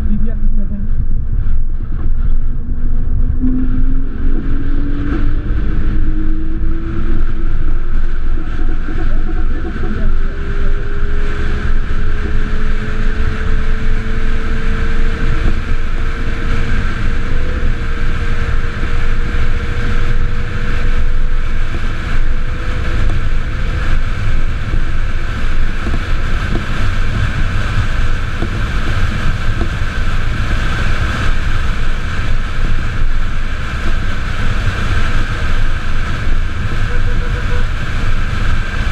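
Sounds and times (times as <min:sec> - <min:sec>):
road rumble: 0:00.0 - 0:38.9
wind noise: 0:00.0 - 0:38.9.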